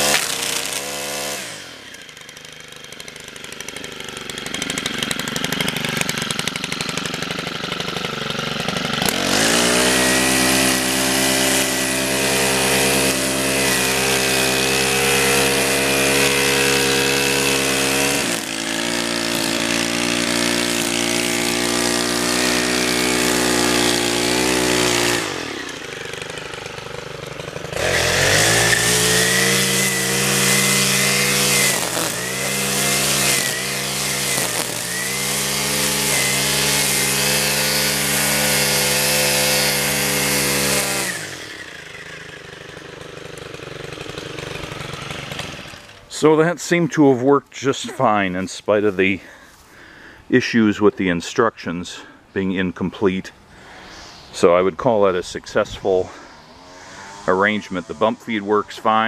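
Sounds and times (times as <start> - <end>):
nylon line cutting grass: 0.0 - 59.0
string trimmer engine revving: 0.0 - 59.0.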